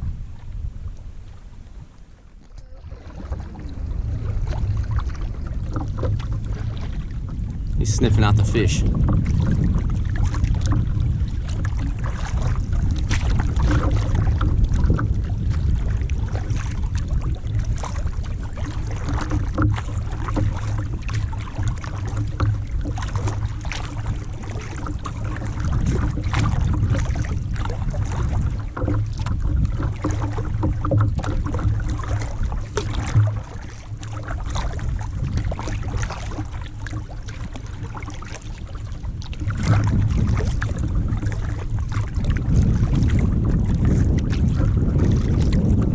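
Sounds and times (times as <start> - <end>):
steady low rumble: 0.0 - 45.9
paddle splashes and drips: 0.3 - 45.9.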